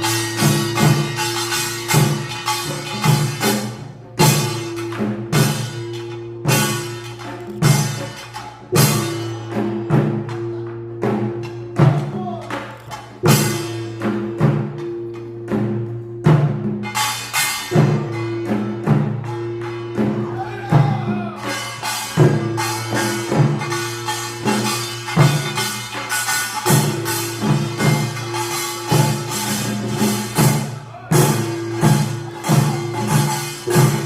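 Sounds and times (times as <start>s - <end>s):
rapid gong and drum strikes: 0.0s - 12.5s, 13.2s - 34.0s.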